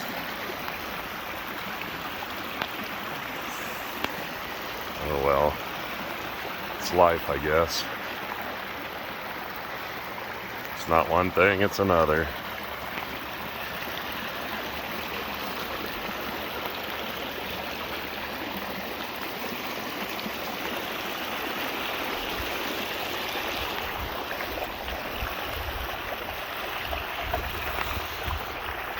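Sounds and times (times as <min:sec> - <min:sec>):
runoff water rushing: 0:00.0 - 0:28.9.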